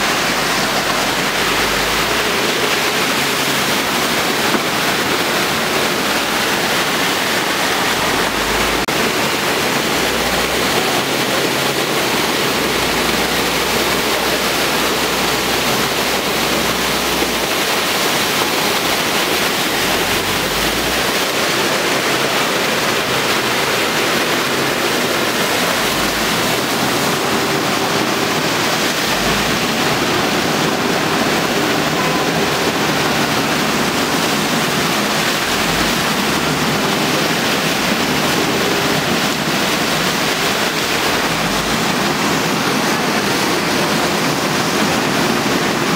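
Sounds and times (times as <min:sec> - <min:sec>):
floodwater pouring over wall: 0:00.0 - 0:45.9.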